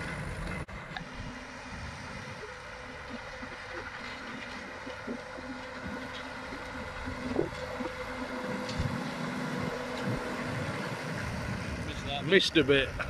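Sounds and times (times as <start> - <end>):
distant tractor engine humming: 0.0 - 13.0
wind rumble on microphone: 0.0 - 13.0.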